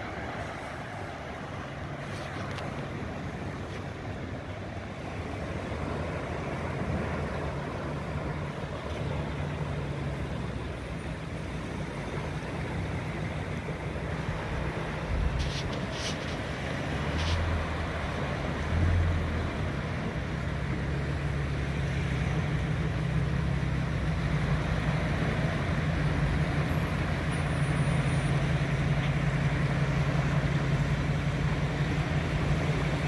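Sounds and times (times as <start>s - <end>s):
surf washing in: 0.0s - 33.0s.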